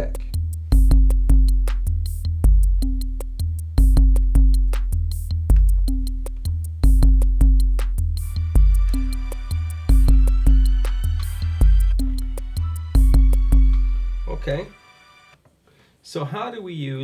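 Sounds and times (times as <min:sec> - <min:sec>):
sub-bass kicks: 0:00.0 - 0:14.5
hi-hats ticking: 0:00.0 - 0:14.7
repeating bass note: 0:00.0 - 0:14.8.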